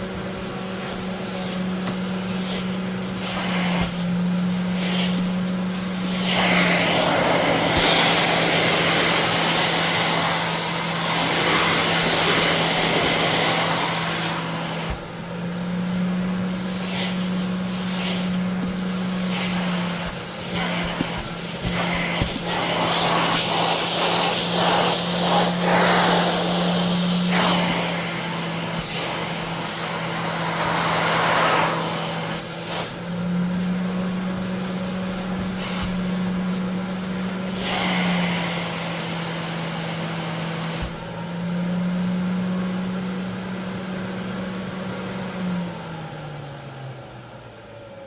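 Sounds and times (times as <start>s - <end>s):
vacuum cleaner running: 0.0s - 48.0s.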